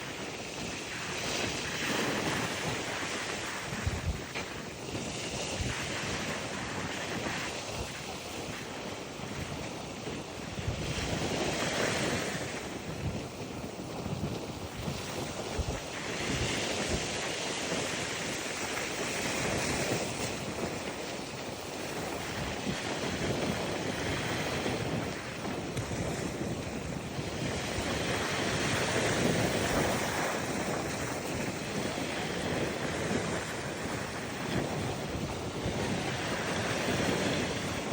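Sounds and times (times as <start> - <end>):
ocean waves breaking on beach: 0.0 - 37.9
wind buffeting microphone: 0.0 - 37.9.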